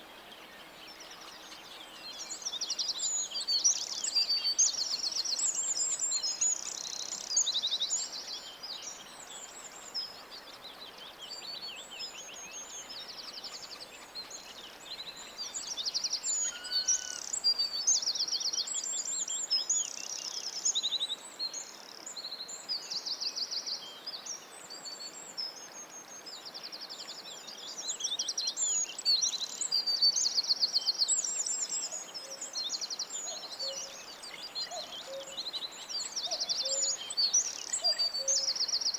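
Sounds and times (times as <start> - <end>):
faint steady hiss: 0.0 - 38.9
small birds trilling and chirping: 0.0 - 38.9.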